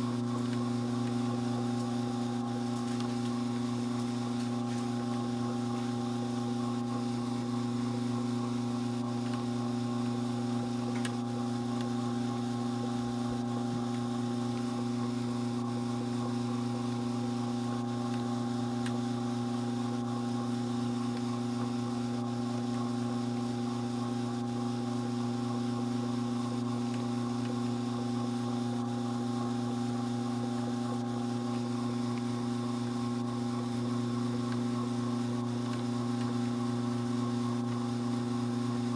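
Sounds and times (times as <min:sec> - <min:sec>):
electric motor humming: 0:00.0 - 0:38.9.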